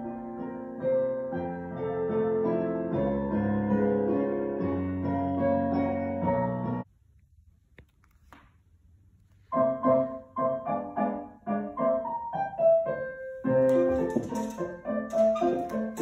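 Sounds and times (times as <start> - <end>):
piano music: 0.0 - 6.8, 9.6 - 16.0.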